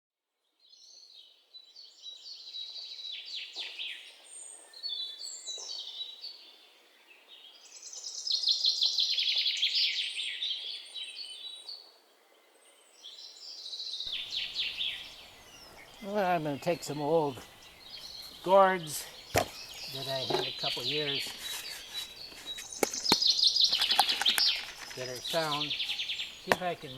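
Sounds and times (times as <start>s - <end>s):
songbirds singing trills: 0.5s - 26.9s.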